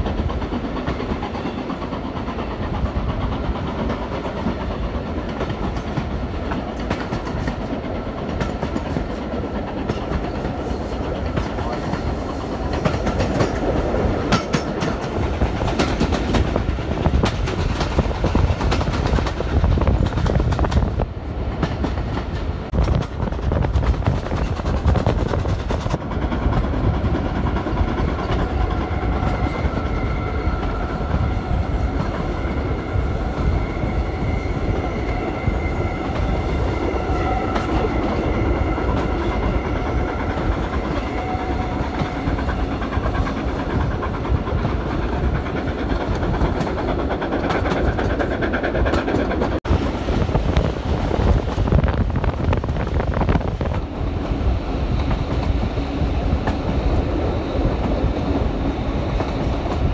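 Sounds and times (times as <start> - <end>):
train carriages rumbling: 0.0 - 59.9.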